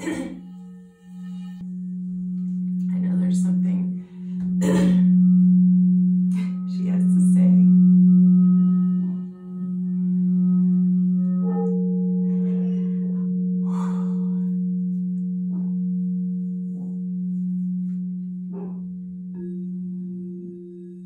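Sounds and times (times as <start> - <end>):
higher singing bowl tone: 0.0 - 21.0
low singing bowl tone: 0.0 - 21.0.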